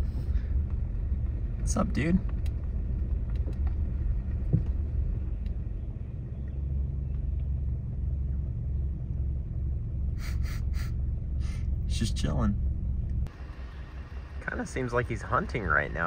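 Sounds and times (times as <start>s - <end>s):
car engine idling rumble: 0.0s - 16.0s.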